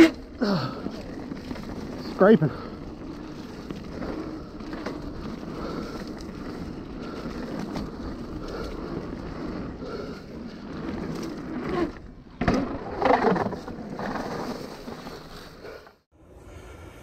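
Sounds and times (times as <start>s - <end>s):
bike clattering over planks: 0.0s - 15.9s
bike tyres rolling on dirt trail: 0.0s - 16.0s.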